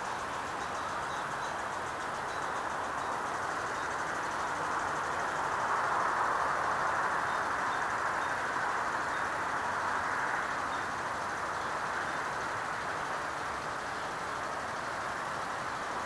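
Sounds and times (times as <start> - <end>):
steady rushing background noise: 0.0 - 16.0.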